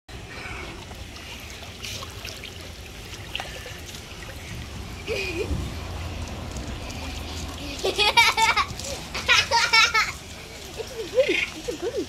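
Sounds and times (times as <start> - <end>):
pool water trickling and lapping: 0.1 - 12.0
water splashing: 0.1 - 12.0.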